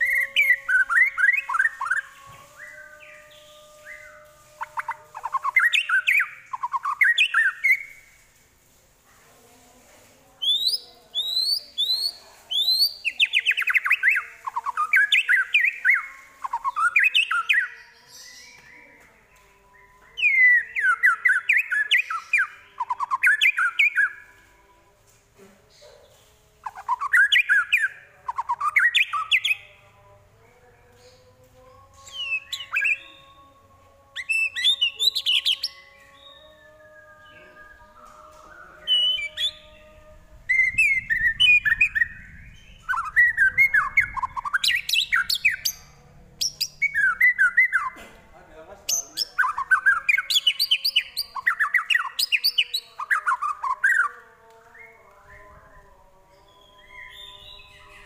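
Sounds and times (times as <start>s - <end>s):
songbird whistling phrases: 0.0s - 8.0s, 10.4s - 18.8s, 19.7s - 24.3s, 26.6s - 29.6s, 32.0s - 33.4s, 34.2s - 48.0s, 48.9s - 58.0s.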